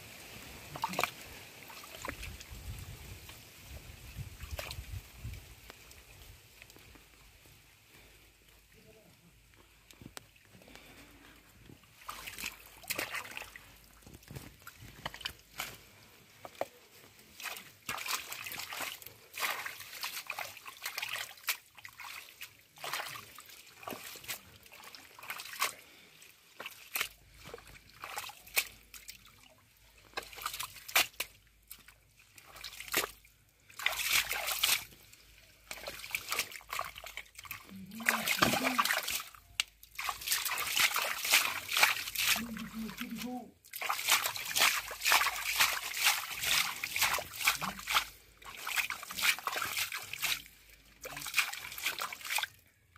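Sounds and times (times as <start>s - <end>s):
hands splashing in muddy water: 0.6s - 5.4s, 11.8s - 52.6s.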